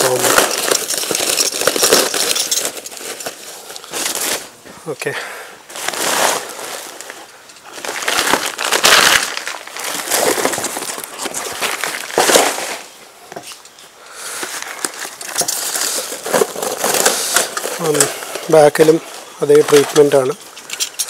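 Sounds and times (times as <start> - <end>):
packing rustling and crackling: 0.0 - 5.0, 5.6 - 21.0.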